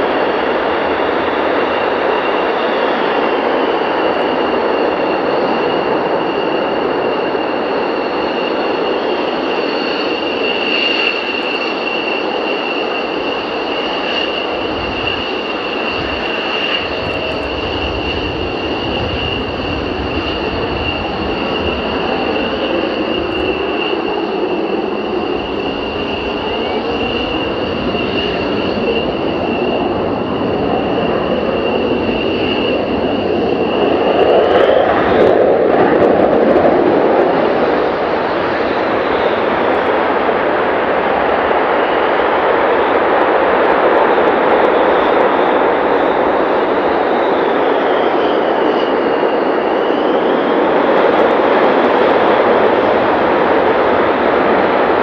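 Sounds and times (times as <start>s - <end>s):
high-pitched jet whine: 0.0s - 55.0s
jet engine roar: 0.0s - 55.0s.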